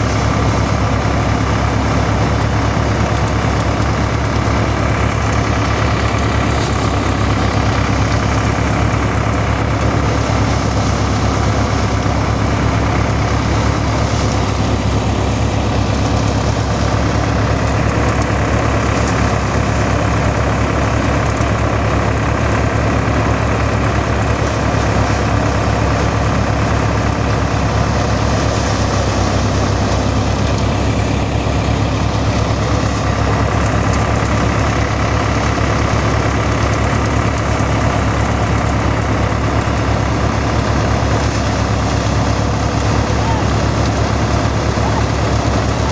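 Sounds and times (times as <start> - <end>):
threshing drum whirring: 0.0 - 45.9
tractor diesel engine running: 0.0 - 45.9.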